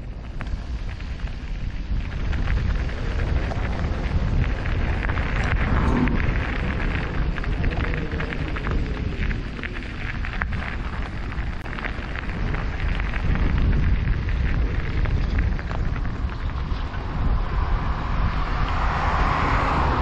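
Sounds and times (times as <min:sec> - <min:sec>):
low rumble: 0:00.0 - 0:20.0
tyres crackling over gravel: 0:00.0 - 0:20.0
wind buffeting microphone: 0:00.0 - 0:20.0.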